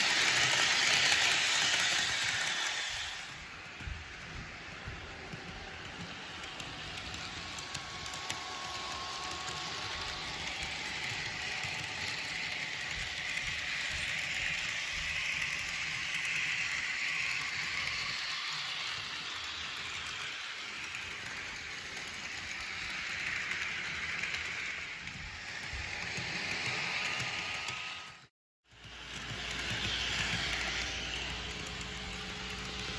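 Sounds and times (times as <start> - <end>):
model train motor whirring: 0.0 - 32.9
wheels clicking on rails: 0.0 - 32.9.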